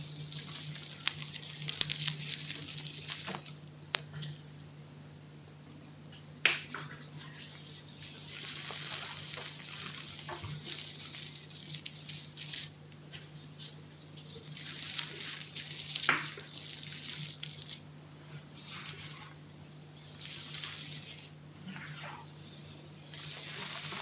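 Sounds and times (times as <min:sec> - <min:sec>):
chalk crunching: 0:00.0 - 0:04.8, 0:07.2 - 0:19.4, 0:20.0 - 0:24.0
faint low hum: 0:00.0 - 0:24.0.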